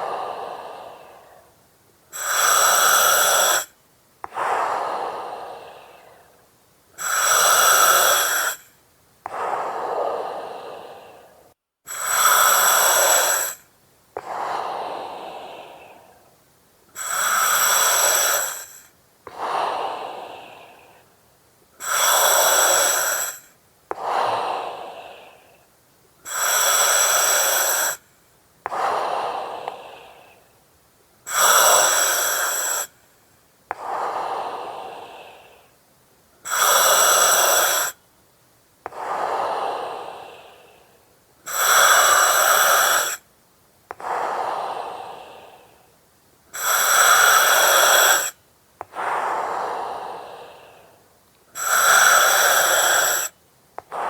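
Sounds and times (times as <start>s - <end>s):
breathing through oxygen mask: 0.0s - 6.4s, 7.0s - 16.3s, 16.9s - 21.1s, 21.8s - 28.0s, 28.7s - 30.5s, 31.3s - 33.0s, 33.7s - 35.8s, 36.4s - 38.0s, 38.9s - 43.2s, 43.9s - 45.8s, 46.5s - 54.0s.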